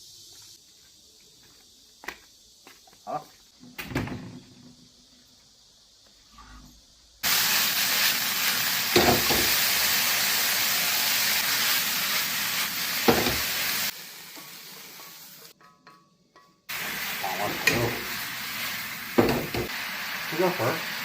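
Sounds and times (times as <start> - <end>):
food sizzling in a wok: 0.0 - 2.6, 4.8 - 15.6, 16.6 - 21.0.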